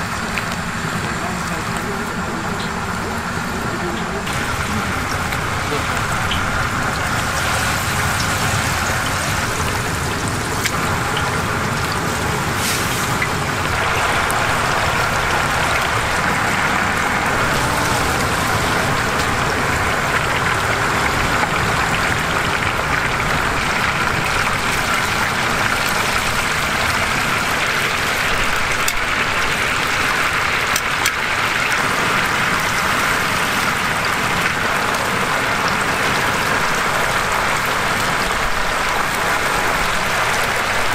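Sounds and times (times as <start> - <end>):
chicken sizzling in hot oil: 0.0 - 40.9.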